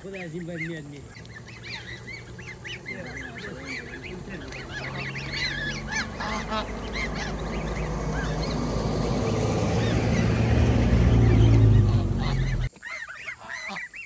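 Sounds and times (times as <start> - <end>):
fowl chirping calls: 0.0 - 14.0.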